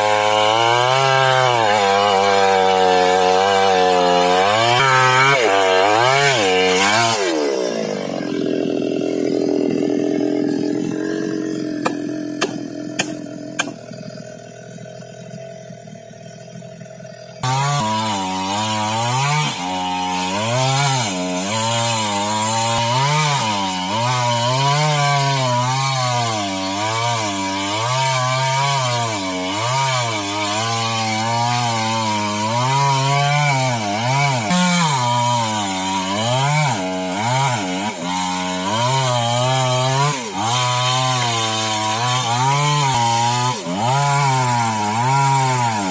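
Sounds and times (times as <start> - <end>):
chainsaw cutting timber: 0.0 - 45.9.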